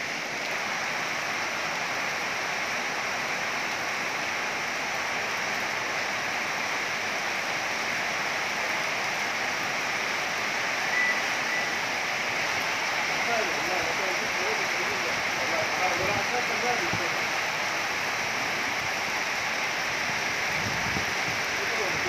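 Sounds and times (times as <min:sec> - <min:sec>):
heavy rain on roofs and pavement: 0:00.0 - 0:22.0.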